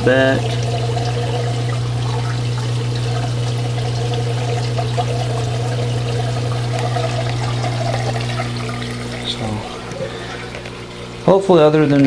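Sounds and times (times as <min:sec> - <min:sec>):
water pouring and trickling: 0:00.0 - 0:11.2
steady low hum: 0:00.0 - 0:11.7.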